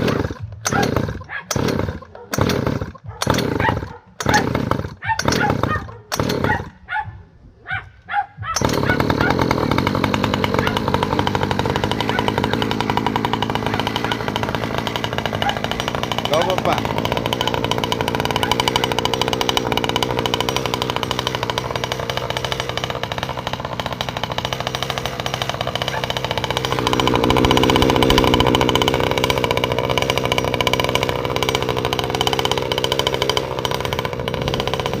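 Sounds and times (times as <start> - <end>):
two-stroke engine running: 0.0 - 7.1, 8.4 - 35.0.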